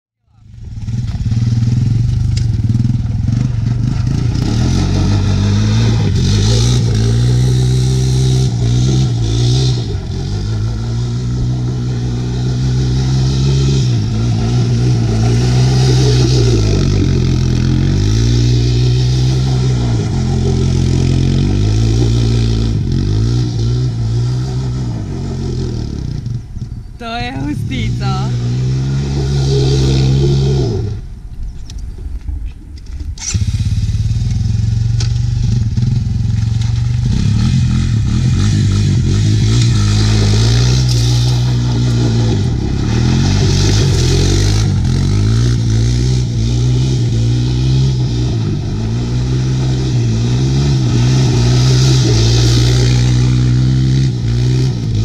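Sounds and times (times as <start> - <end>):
quad engine revving: 0.3 - 31.1, 33.2 - 55.0.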